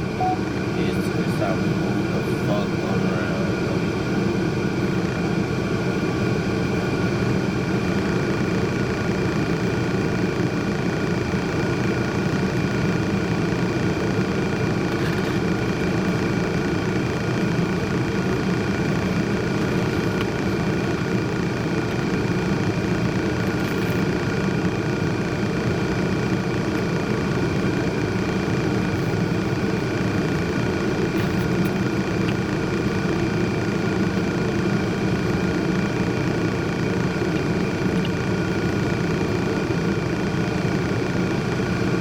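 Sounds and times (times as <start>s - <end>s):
mechanical hum and rumble: 0.0s - 42.0s.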